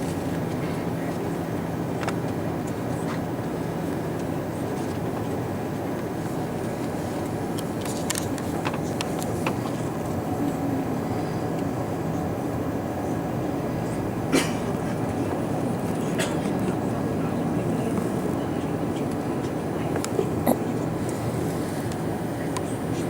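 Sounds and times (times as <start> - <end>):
aircraft cabin hum: 0.0 - 23.0.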